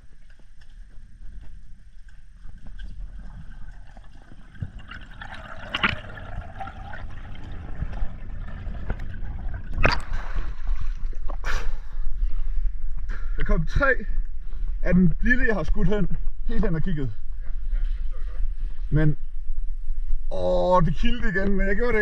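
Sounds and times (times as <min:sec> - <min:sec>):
underwater rumble with bubbling: 0:00.0 - 0:13.4, 0:17.2 - 0:21.7.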